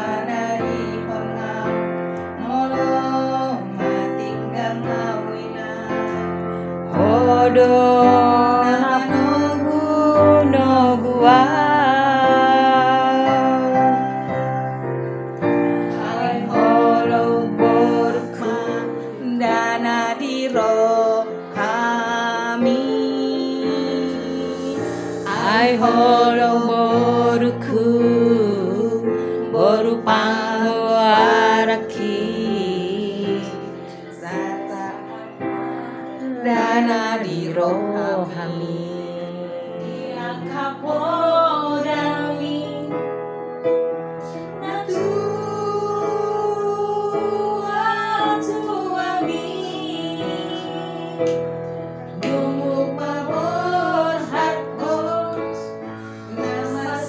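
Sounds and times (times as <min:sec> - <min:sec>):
keyboard chords: 0:00.0 - 0:57.0
woman singing with vibrato: 0:02.4 - 0:06.1, 0:07.0 - 0:14.3, 0:15.8 - 0:43.0, 0:44.5 - 0:51.4, 0:52.2 - 0:57.0.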